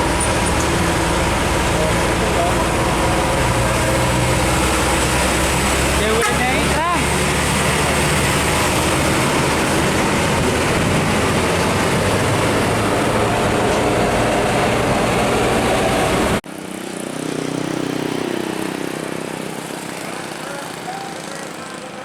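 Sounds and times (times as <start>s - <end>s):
heavy truck passing: 0.0s - 22.0s
vehicle passing: 0.0s - 22.0s.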